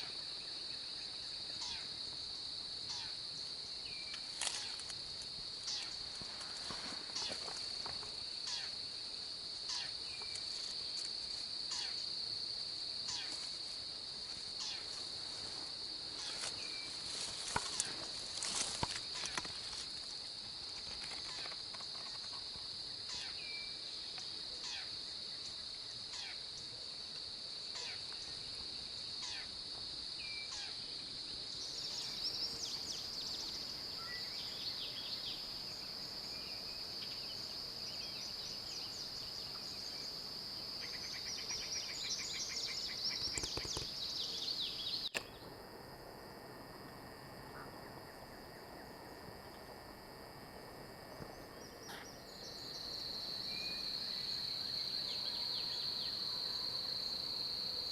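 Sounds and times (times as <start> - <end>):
insect chorus drone: 0.0 - 57.9.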